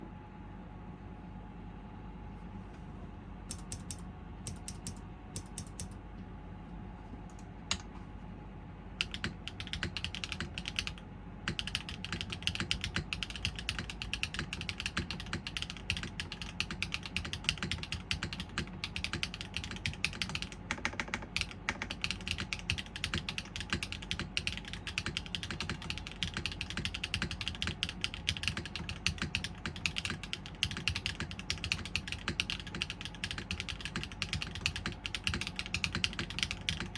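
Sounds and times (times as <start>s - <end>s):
mechanical keyboard typing: 3.5s - 6.0s, 9.0s - 36.9s.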